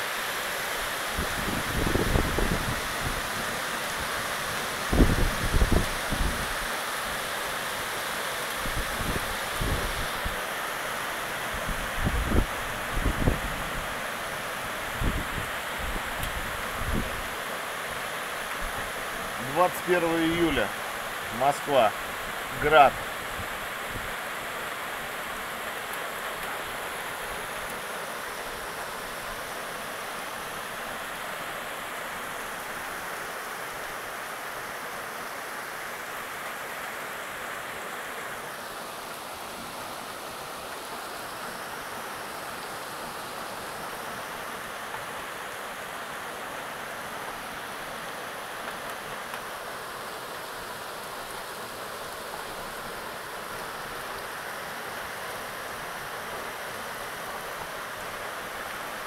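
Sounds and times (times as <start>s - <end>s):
heavy rain and hail: 0.8s - 59.0s.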